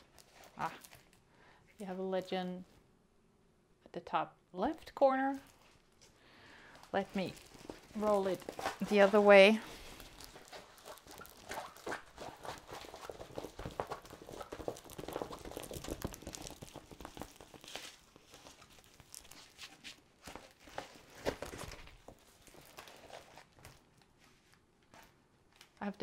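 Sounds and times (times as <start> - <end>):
plastic film rustling and crinkling: 0.0 - 2.2, 5.3 - 26.0.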